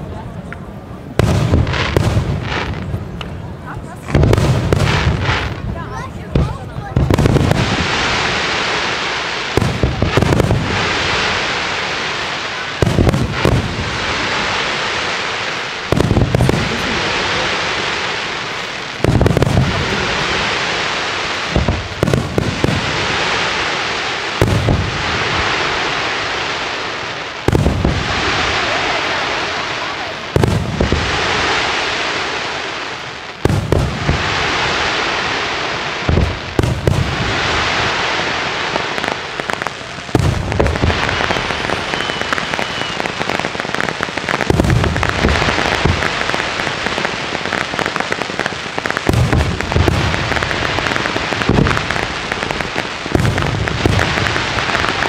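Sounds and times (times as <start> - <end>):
sizzling crackle of fireworks: 0.0 - 55.0
firework shells booming: 1.1 - 3.4, 4.0 - 55.0.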